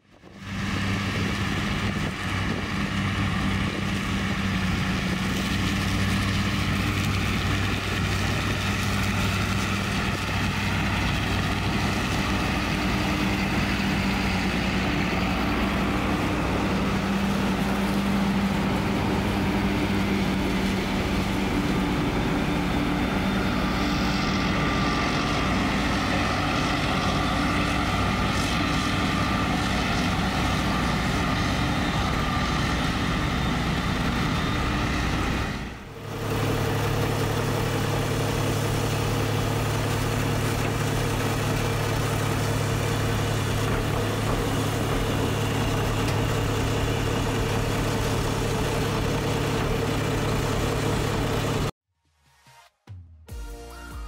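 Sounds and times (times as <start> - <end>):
tractor diesel engine running: 0.0 - 51.8
forage harvester chopping: 0.4 - 51.7.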